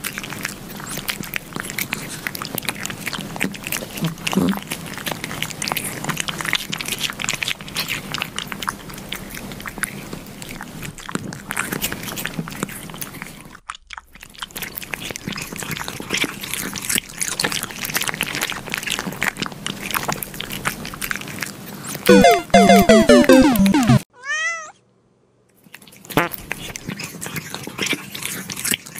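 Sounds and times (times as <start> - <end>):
cats lapping and tongue clicks: 0.0 - 22.0, 25.6 - 28.9.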